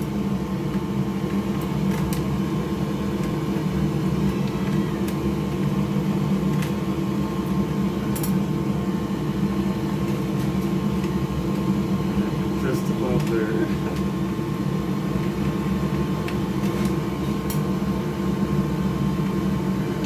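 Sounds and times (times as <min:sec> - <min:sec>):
fan motor humming: 0:00.0 - 0:20.0.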